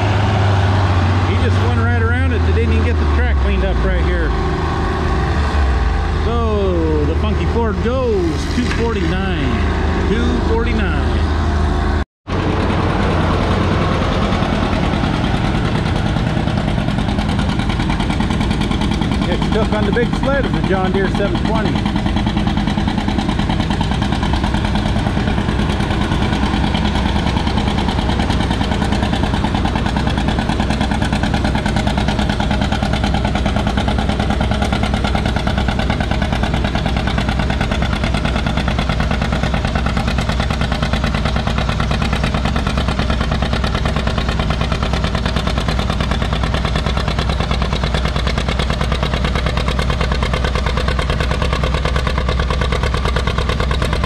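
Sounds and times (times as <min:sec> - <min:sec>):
tractor engine running loudly: 0:00.0 - 0:54.0.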